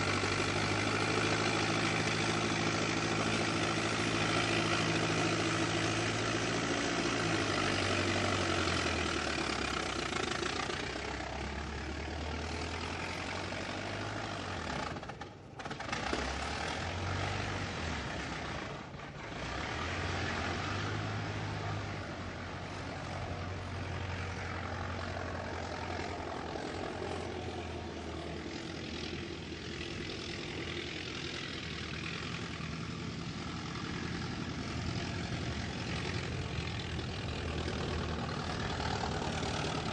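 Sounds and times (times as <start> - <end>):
old car engine running: 0.0 - 39.9.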